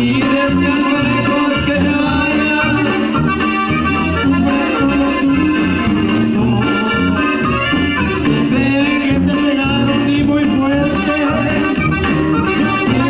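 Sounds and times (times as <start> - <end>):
accordion: 0.0 - 13.0
brass instruments: 0.0 - 13.0
guitar: 0.0 - 13.0
sousaphone bass line: 0.0 - 13.0.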